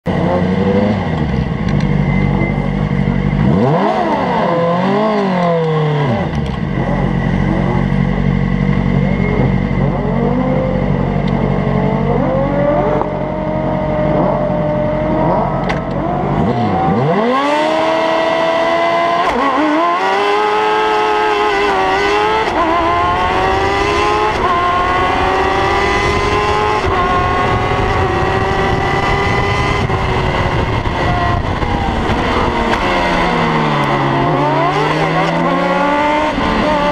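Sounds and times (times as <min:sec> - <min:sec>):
race car engine accelerating: 0:00.1 - 0:36.9.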